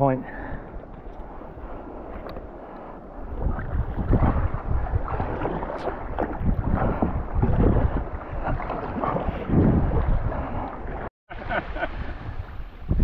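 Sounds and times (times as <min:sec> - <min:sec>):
choppy water against kayak: 0:00.0 - 0:13.0
wind gusting over microphone: 0:00.0 - 0:13.0
paddle strokes splashing: 0:00.4 - 0:12.8.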